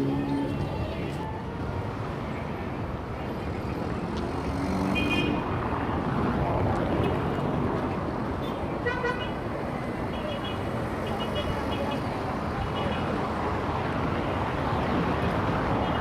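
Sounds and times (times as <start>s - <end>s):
heavy city traffic: 0.0s - 16.0s.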